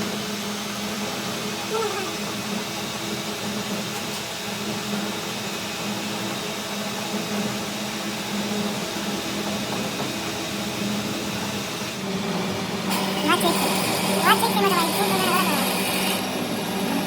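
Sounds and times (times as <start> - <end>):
machine humming and hissing: 0.0 - 17.0.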